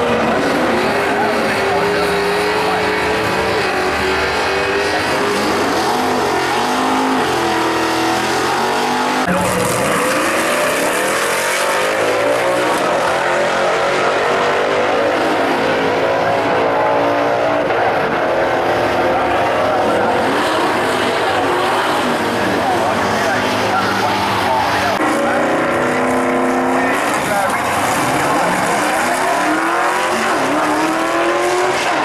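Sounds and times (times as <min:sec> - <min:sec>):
drag car engines revving: 0:00.0 - 0:32.0.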